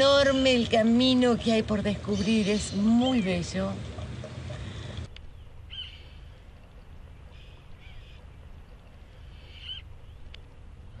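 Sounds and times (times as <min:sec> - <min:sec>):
low steady rumble: 0:00.0 - 0:11.0
birds calling: 0:01.4 - 0:11.0.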